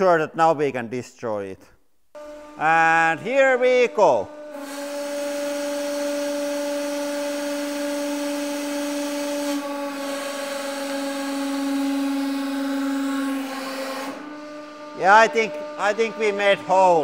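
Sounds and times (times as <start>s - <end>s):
hydraulic press droning whine: 2.2s - 17.0s.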